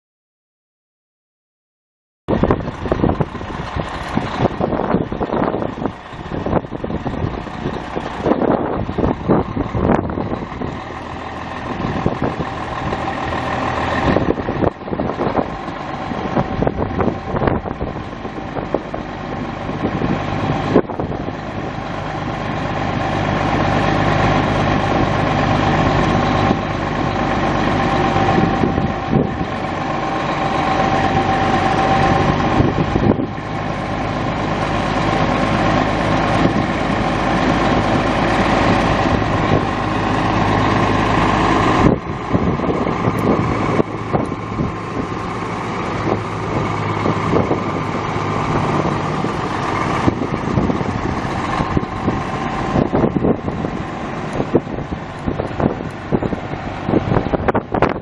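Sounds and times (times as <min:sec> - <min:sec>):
diesel engine running: 0:02.3 - 0:58.0.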